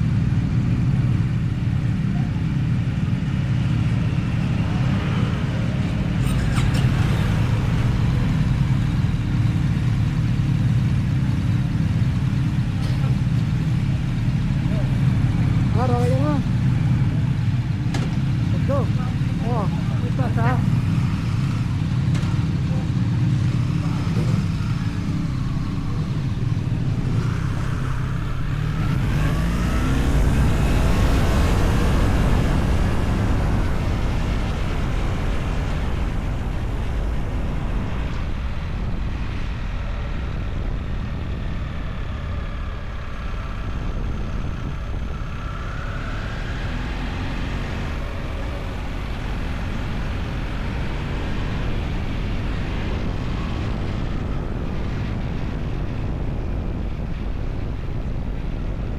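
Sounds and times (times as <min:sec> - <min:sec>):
road and wind noise: 0:00.0 - 0:58.9
vehicle engine running: 0:00.0 - 0:58.9.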